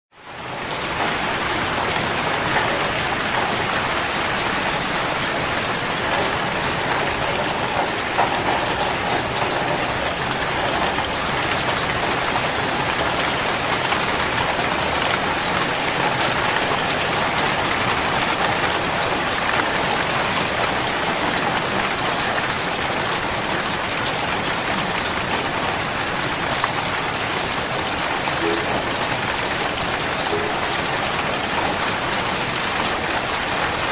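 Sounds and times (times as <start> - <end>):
raindrops ticking: 0.2 - 33.9
steady rain hissing: 0.2 - 33.9.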